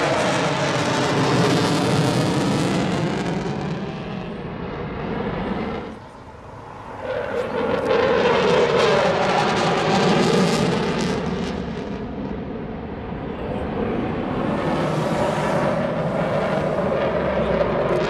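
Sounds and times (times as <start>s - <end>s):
jet engines flying past: 0.0s - 18.0s.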